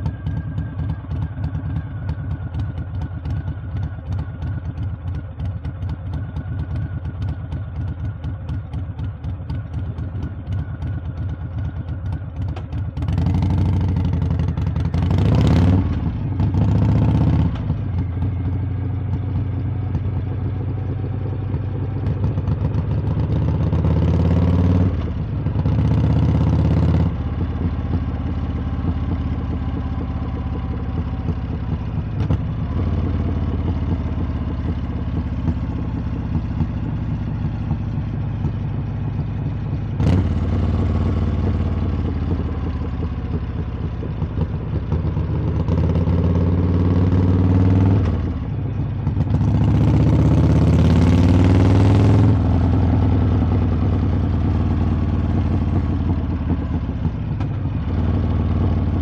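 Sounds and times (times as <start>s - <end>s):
motorcycle exhaust shifting gears: 0.0s - 59.0s.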